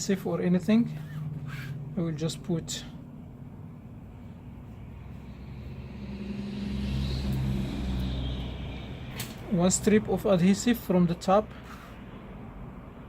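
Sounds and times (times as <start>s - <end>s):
vehicle engine rumbling: 0.0s - 12.8s.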